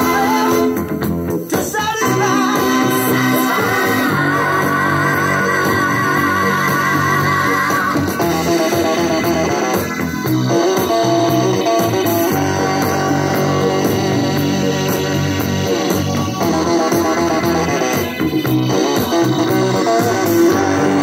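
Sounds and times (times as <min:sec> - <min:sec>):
guitar-led music over speakers: 0:00.0 - 0:21.0.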